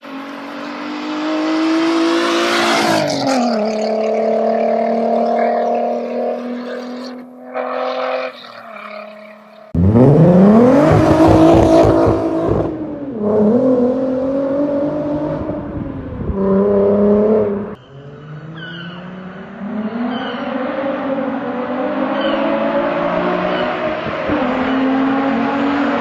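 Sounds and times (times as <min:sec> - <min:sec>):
car engine revving hard: 0:00.5 - 0:06.7, 0:09.7 - 0:26.0.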